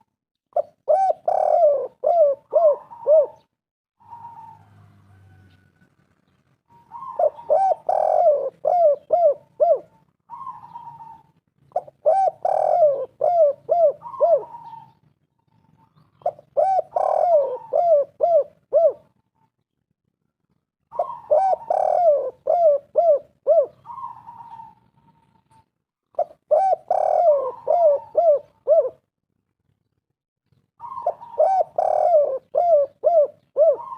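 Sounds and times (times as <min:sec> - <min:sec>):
dove cooing: 0:00.6 - 0:05.4, 0:06.7 - 0:19.3, 0:20.9 - 0:29.1, 0:30.8 - 0:33.9.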